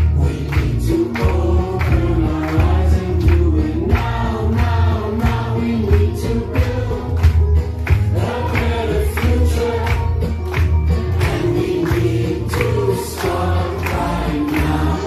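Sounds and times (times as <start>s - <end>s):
amplified music with steady beat: 0.0s - 15.0s
crowd singing together: 0.0s - 15.0s.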